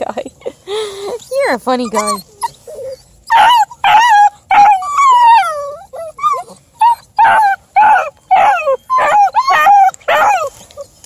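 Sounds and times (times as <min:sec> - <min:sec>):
puppies yelping: 0:01.0 - 0:11.0.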